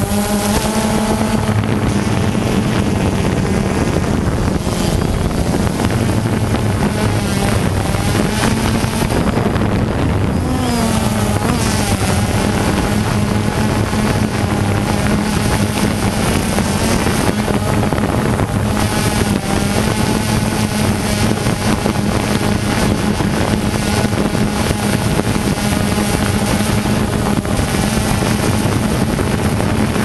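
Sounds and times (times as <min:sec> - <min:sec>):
drone motors humming: 0:00.0 - 0:30.0
wind buffeting microphone: 0:00.0 - 0:30.0.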